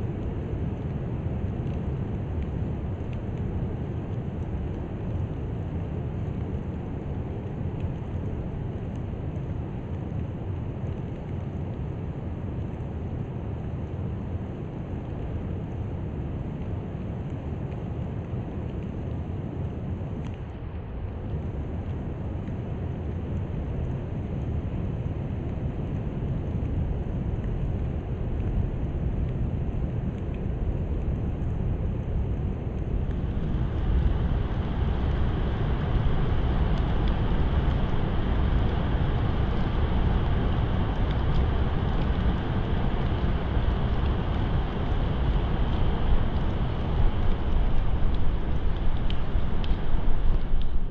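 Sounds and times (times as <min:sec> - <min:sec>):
rain hiss: 0:00.0 - 0:50.9
wind rumble on microphone: 0:00.0 - 0:50.9.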